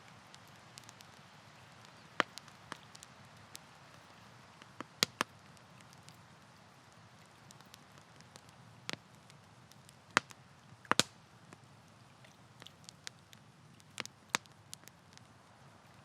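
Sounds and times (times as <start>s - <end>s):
campfire crackling and popping: 0.0s - 16.0s
faint low hiss: 0.0s - 16.0s.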